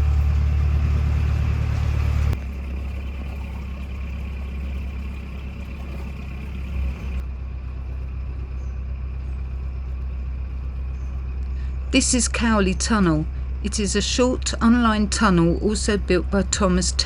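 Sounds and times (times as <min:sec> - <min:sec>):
boat diesel engine humming: 0:00.0 - 0:17.0.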